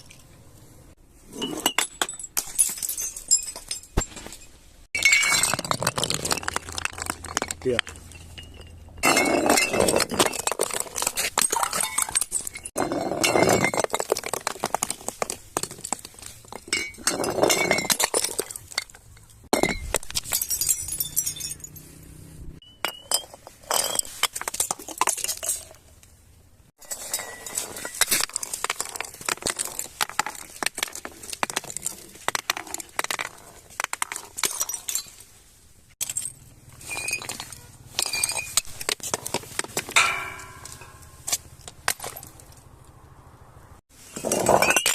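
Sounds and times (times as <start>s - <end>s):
glass bottles clinking and breaking: 1.3s - 21.8s, 22.6s - 25.8s, 26.8s - 35.3s, 36.0s - 42.4s, 44.0s - 44.9s.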